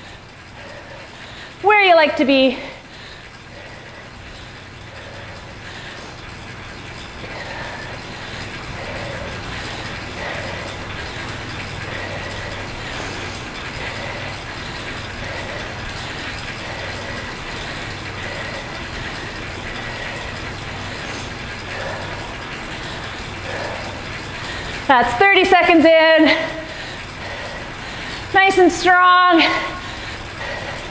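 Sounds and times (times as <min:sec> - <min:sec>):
bicycle trainer whirring: 0:00.0 - 0:30.9.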